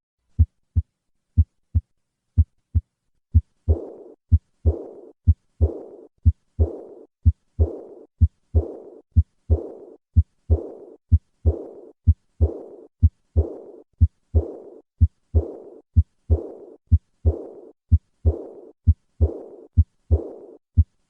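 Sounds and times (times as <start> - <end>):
heartbeat through stethoscope: 0.3 - 21.0
high-pitched heart murmur hiss: 3.4 - 20.9.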